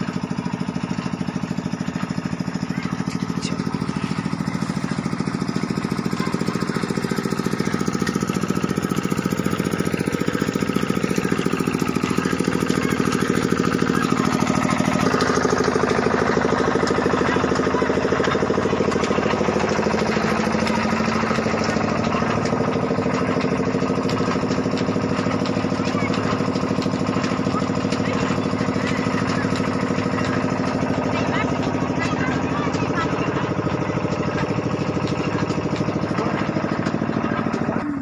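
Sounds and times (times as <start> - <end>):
engine running steadily: 0.0 - 38.0.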